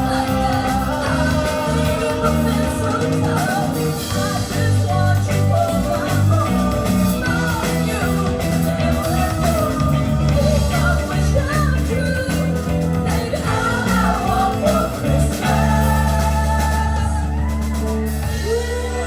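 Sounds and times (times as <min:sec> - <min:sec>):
bass line held notes: 0:00.0 - 0:19.0
guitar: 0:00.0 - 0:19.0
person singing: 0:00.0 - 0:19.0.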